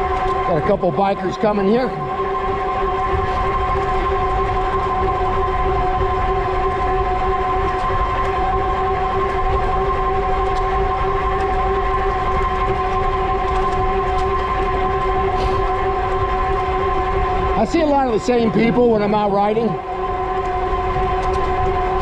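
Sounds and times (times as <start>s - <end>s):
electric bike motor whining: 0.0s - 22.0s.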